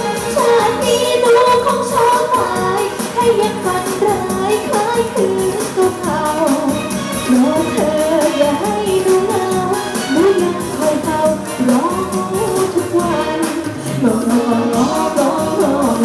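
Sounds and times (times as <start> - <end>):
backing music with steady beat: 0.0 - 16.0
woman singing into microphone: 0.0 - 16.0.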